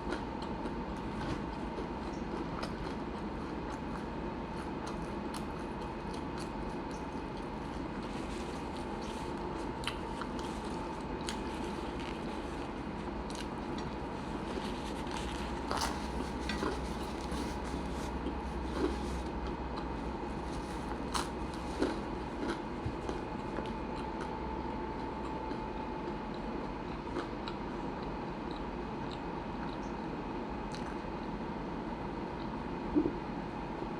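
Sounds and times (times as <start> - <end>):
person chewing a sandwich: 0.0 - 30.0, 30.6 - 31.2
steady background hum: 0.0 - 33.9.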